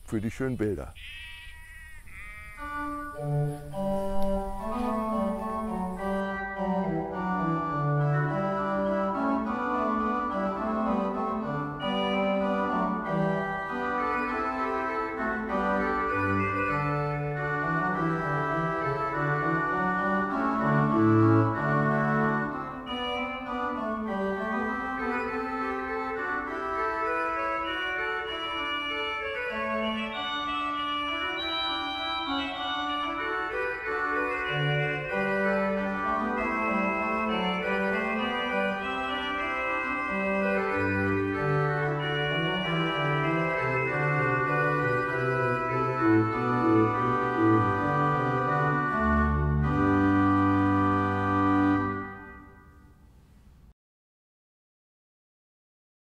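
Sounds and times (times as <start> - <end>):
organ music: 0.0 - 53.1.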